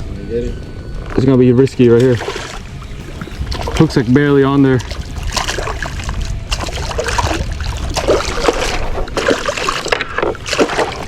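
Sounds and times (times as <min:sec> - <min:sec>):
steady low rumble: 0:00.0 - 0:11.0
water splashing around kayak: 0:02.0 - 0:11.0.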